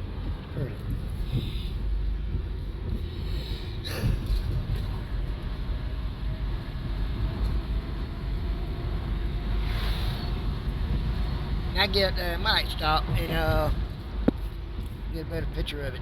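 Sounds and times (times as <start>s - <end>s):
vehicle cabin rumble: 0.0s - 16.0s.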